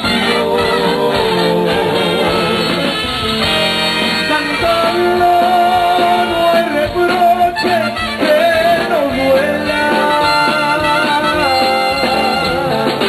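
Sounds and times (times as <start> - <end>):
live band instrumental music: 0.0 - 13.0.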